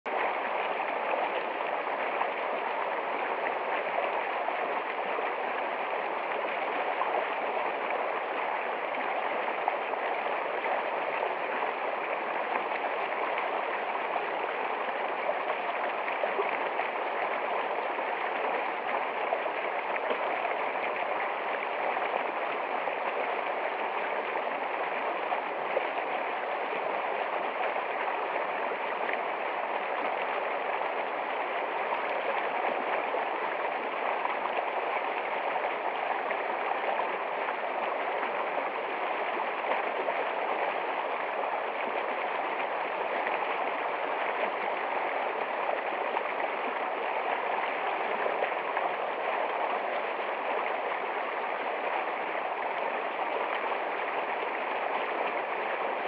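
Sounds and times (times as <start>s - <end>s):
stream rushing over rocks: 0.1s - 56.0s.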